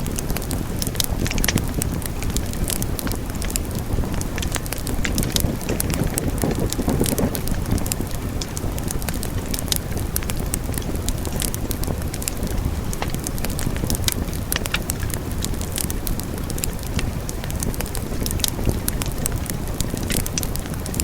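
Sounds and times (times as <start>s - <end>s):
fire crackling and popping: 0.0s - 21.0s
wood fire burning: 0.0s - 21.0s.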